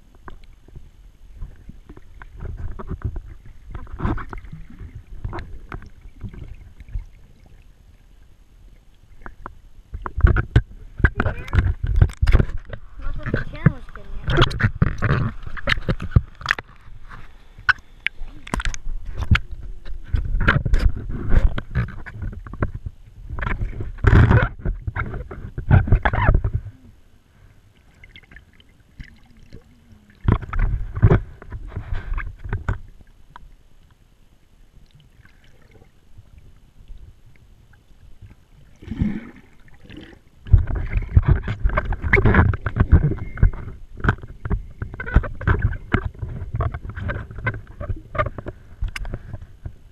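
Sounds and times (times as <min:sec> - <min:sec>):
low underwater rumbling: 0:00.0 - 0:49.9
water sloshing and gurgling: 0:00.0 - 0:49.9.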